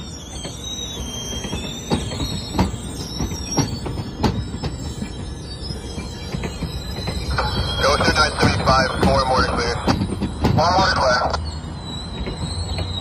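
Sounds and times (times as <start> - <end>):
low rumble of rolling coaches: 0.0 - 13.0
train wheels squealing on rail: 0.0 - 13.0.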